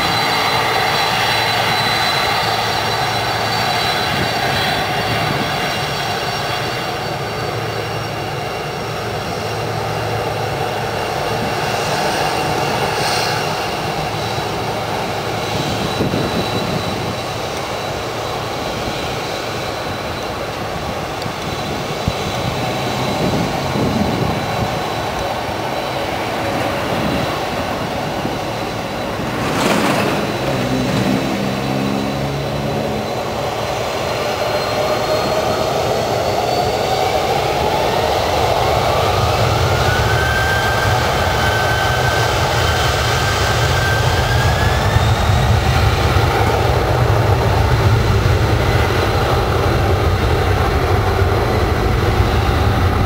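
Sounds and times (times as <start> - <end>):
jet engines rumbling and whining: 0.0 - 53.0.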